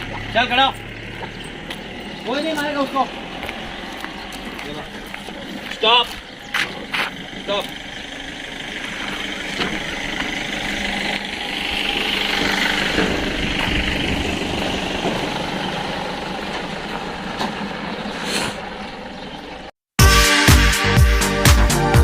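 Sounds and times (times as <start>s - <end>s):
engine-like running noise: 0.0s - 19.7s.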